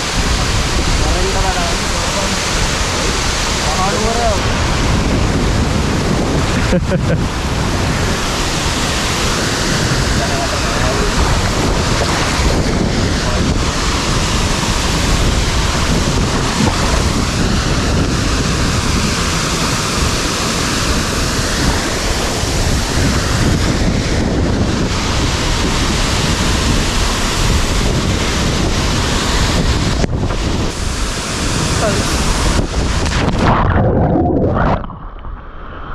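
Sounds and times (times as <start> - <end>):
waterfall rushing: 0.0 - 34.9
wind buffeting microphone: 0.0 - 35.9.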